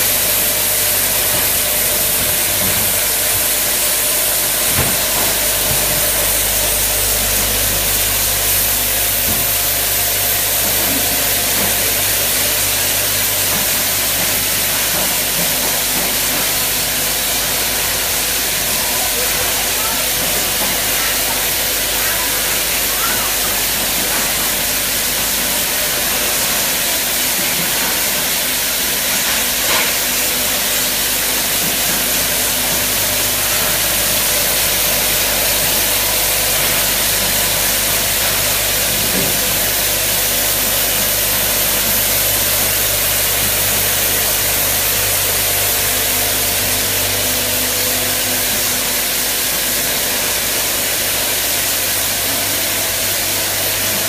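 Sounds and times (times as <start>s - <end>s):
machine hiss and hum: 0.0s - 54.0s.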